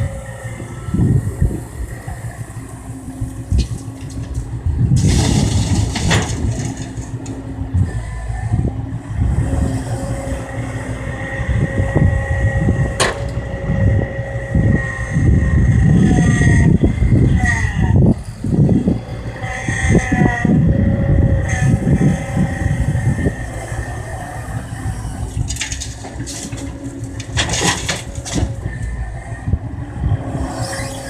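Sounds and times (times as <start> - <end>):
excavator engine and hydraulics: 0.0 - 31.0
steady hydraulic whine: 0.0 - 31.0.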